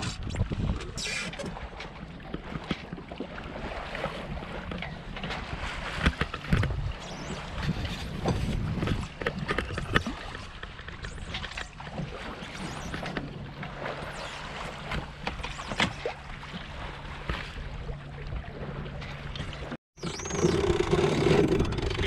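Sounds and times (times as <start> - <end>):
water splashing against hull: 0.0 - 22.0.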